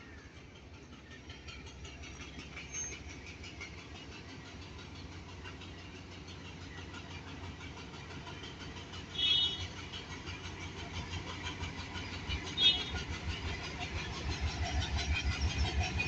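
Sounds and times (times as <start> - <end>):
diesel locomotive engine idling: 0.0 - 16.0.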